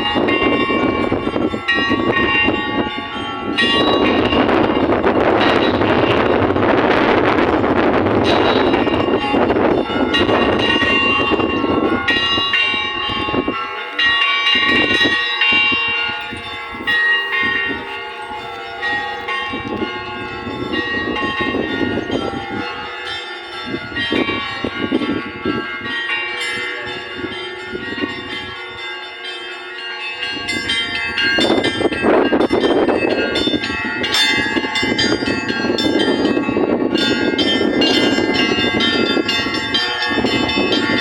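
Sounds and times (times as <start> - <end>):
church bells pealing: 0.0 - 41.0.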